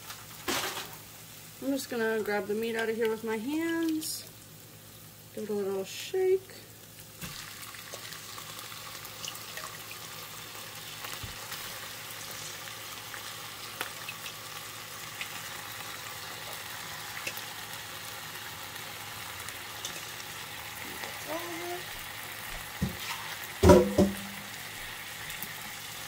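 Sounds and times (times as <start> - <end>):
meat sizzling in a skillet: 0.0 - 26.0.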